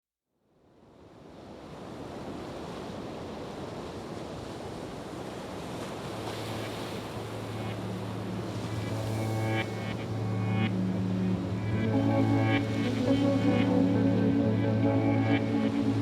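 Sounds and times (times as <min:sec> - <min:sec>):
ocean waves and surf: 0:00.6 - 0:16.0.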